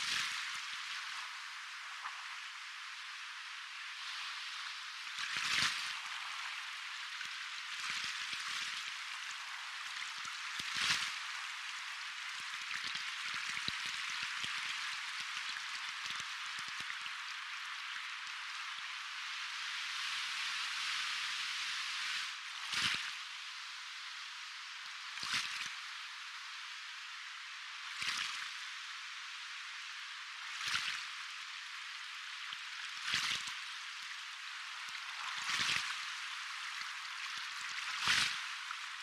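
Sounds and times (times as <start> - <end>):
soft ocean waves: 0.0 - 39.0.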